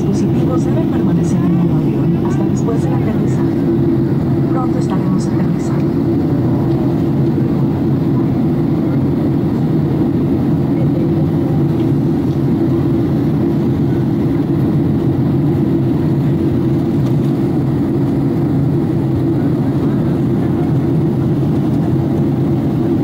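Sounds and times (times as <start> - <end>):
jet engine rumble in cabin: 0.0 - 23.0.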